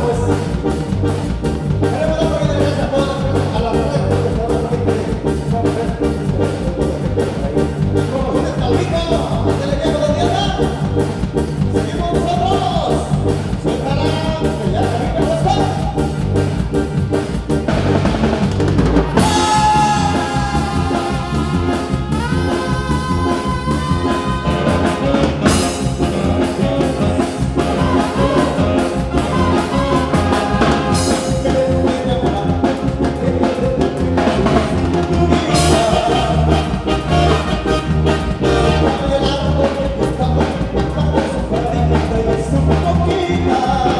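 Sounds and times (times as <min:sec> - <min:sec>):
band music: 0:00.0 - 0:43.9
drum kit beat: 0:00.0 - 0:43.9.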